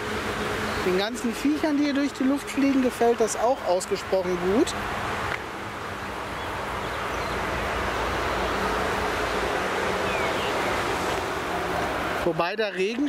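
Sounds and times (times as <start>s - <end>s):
outdoor rushing noise: 0.0s - 13.0s.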